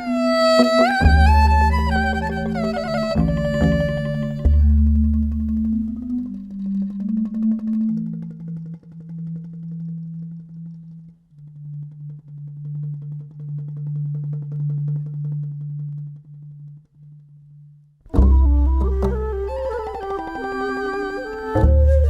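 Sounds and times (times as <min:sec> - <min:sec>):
rapid bamboo percussion patter: 0:00.0 - 0:16.7, 0:18.1 - 0:22.0
low sustained bamboo tone: 0:00.0 - 0:22.0.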